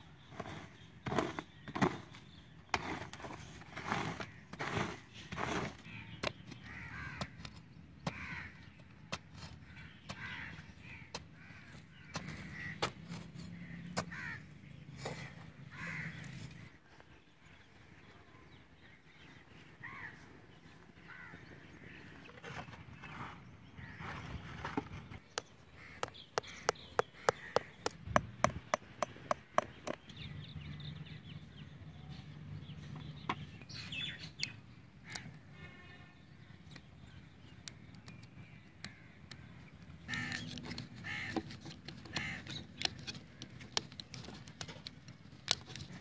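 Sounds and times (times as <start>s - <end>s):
birds calling: 0.0s - 46.0s.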